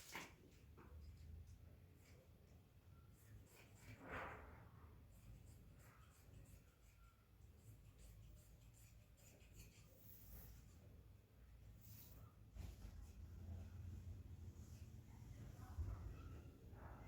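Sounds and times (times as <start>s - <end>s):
low room hum: 0.4s - 17.0s.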